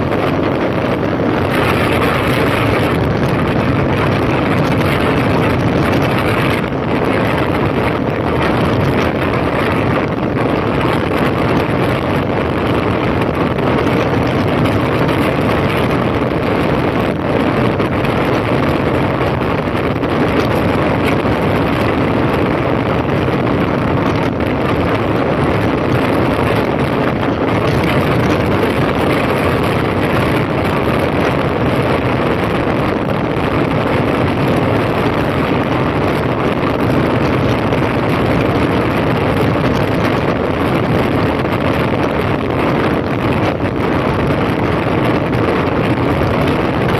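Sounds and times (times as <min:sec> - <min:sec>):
motorcycle engine running: 0:00.0 - 0:46.9
wind rush over microphone: 0:00.0 - 0:46.9.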